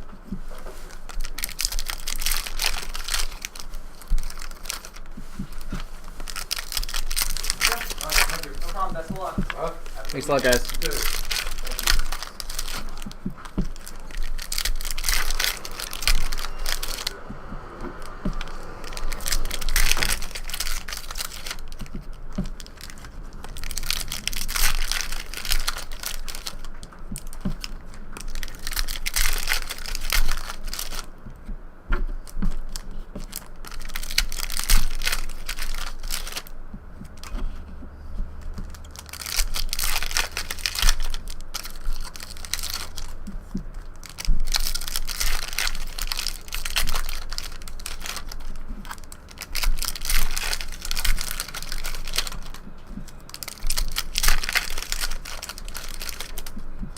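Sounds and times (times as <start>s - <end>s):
card pack wrappers tearing and crinkling: 0.0s - 31.2s, 32.1s - 56.9s.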